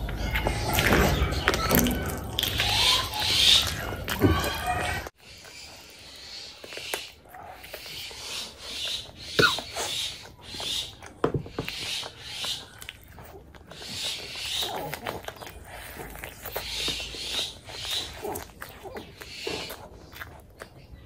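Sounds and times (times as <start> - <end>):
mouth clicks and smacks: 0.0 - 21.0
person chewing: 0.0 - 21.0.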